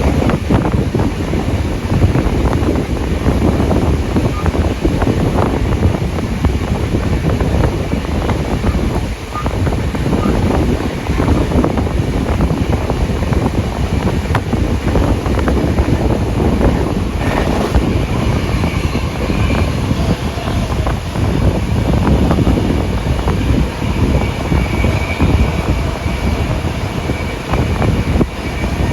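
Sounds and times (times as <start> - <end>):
train running noise with clatter: 0.0 - 28.9
wind buffeting microphone: 0.0 - 28.9.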